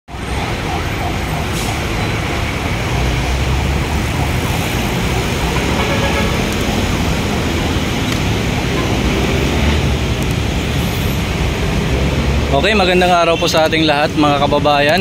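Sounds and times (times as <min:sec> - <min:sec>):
city street traffic: 0:00.1 - 0:15.0
vehicle engines running nearby: 0:00.1 - 0:15.0.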